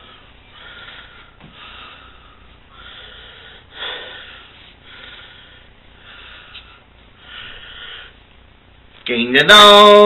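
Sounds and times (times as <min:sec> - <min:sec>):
person breathing and sniffing: 0:00.0 - 0:08.2.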